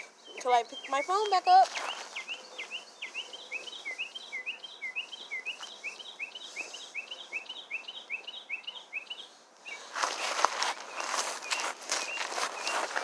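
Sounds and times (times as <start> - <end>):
bird song through a speaker: 0.0 - 13.0.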